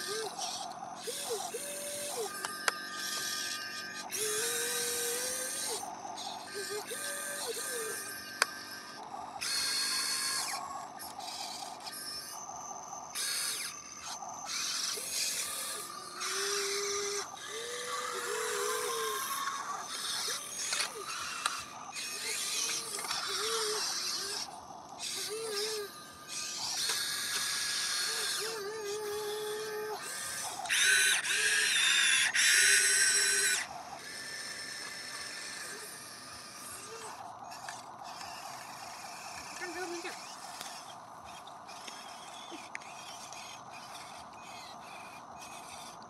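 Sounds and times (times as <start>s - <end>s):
toy gear motors whirring: 0.0s - 46.0s.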